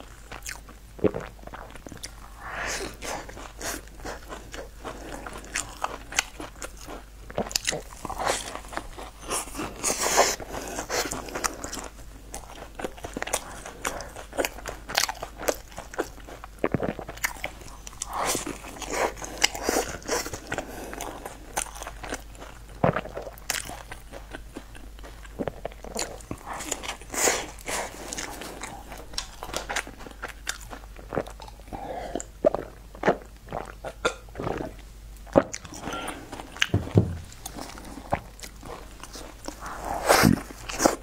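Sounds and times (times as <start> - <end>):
crunchy bread chewing: 0.0 - 41.0.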